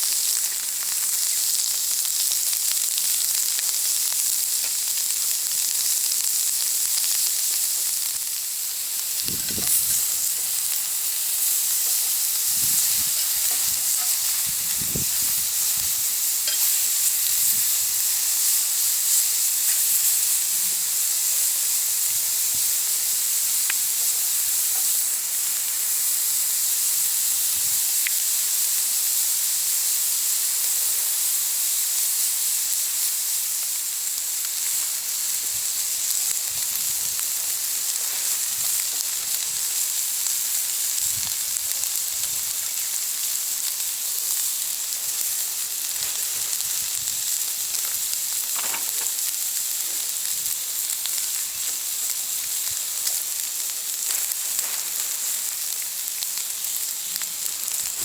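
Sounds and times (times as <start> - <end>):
fire crackles: 0.0 - 58.0
log burning in stove hiss: 0.0 - 58.0.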